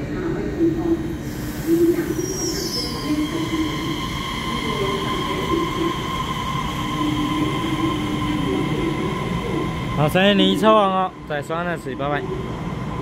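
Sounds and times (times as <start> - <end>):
electric train rolling: 1.0 - 13.0.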